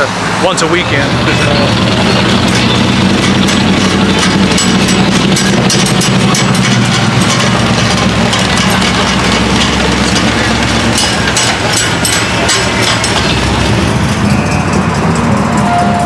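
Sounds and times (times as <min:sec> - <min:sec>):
truck engine low rumble: 0:00.0 - 0:16.0.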